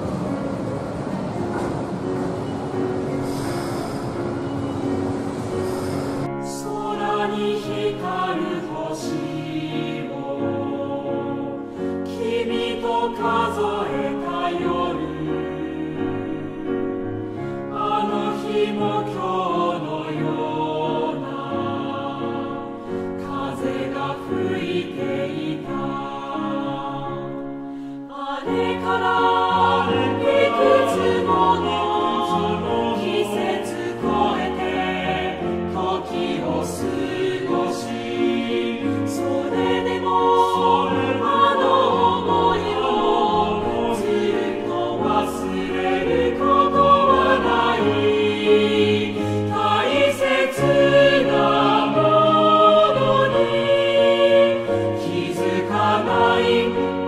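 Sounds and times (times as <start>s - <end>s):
choir-like singing: 0.0s - 57.0s.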